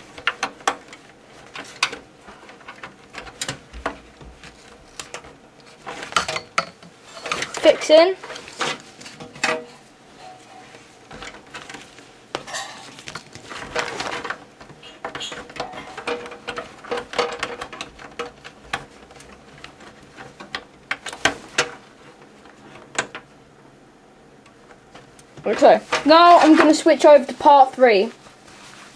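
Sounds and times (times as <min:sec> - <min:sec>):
rustling of cables: 0:00.0 - 0:28.9.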